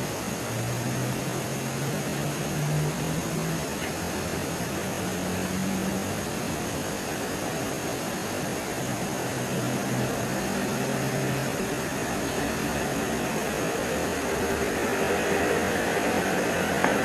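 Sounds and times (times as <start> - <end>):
dense even hiss: 0.0 - 17.0
faint high whine: 0.0 - 17.0.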